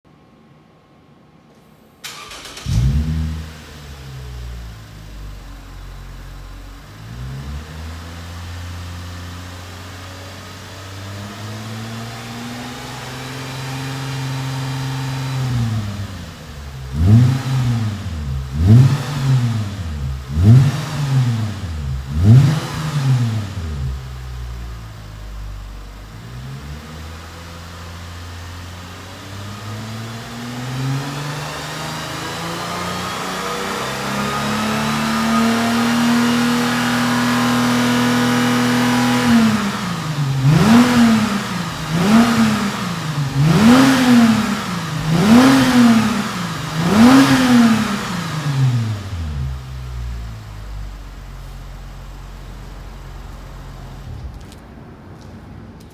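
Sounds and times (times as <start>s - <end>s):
car engine revving and idling: 2.0s - 54.6s.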